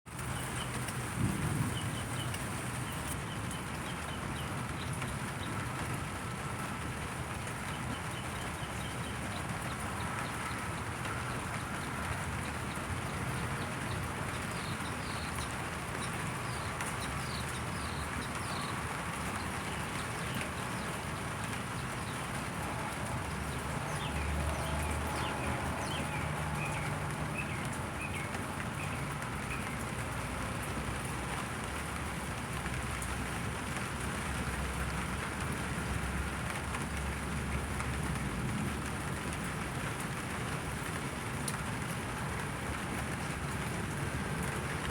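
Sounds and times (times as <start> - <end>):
steady rain falling: 0.1 - 44.9.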